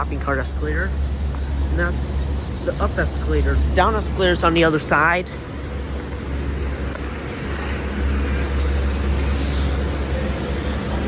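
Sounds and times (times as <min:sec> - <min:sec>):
escalator hum and rumble: 0:00.0 - 0:11.0
store background noise: 0:00.0 - 0:11.0.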